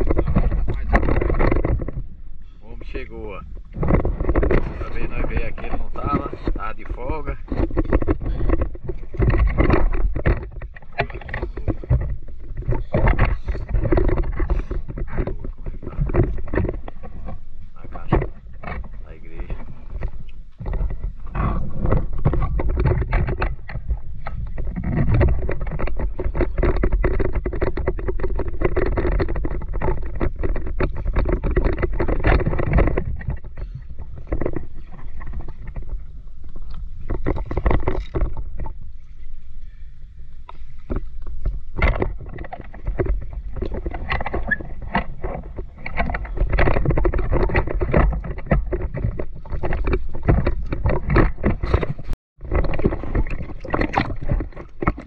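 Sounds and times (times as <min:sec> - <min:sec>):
water sloshing and splashing: 0:00.0 - 0:55.0.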